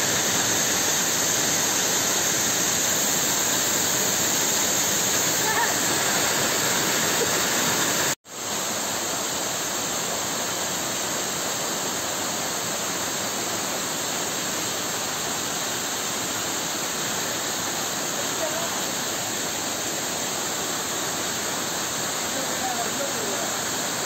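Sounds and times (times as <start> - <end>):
waterfall rushing onto rocks: 0.0 - 24.0.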